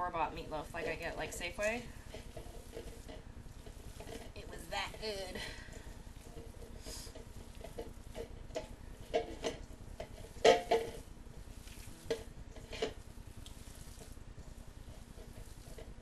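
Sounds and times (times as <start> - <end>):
meat mixture mixed in bowl: 0.0 - 16.0.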